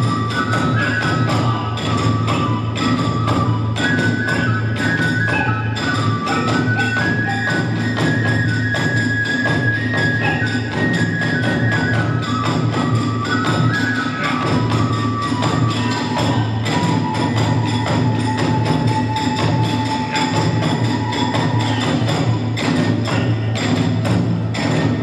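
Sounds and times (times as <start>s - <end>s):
bamboo flute melody: 0.0s - 25.0s.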